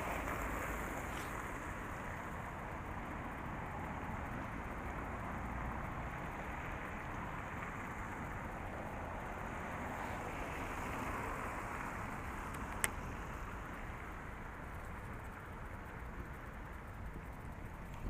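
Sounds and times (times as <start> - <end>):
city traffic noise: 0.0 - 18.0.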